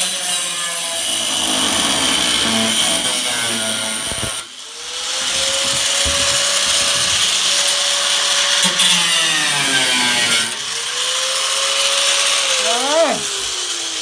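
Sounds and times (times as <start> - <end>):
cut-off tool cutting sheet steel: 0.0 - 12.8.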